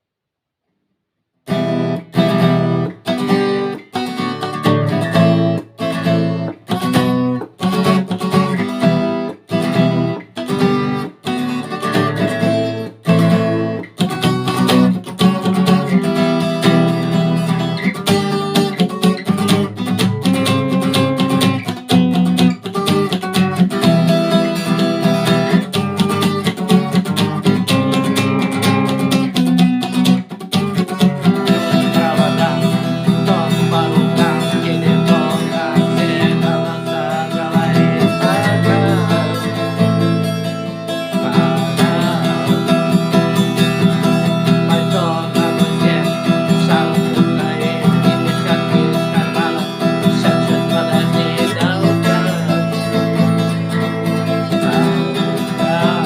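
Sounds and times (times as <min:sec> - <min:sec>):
acoustic guitar strumming: 0:01.5 - 0:56.0.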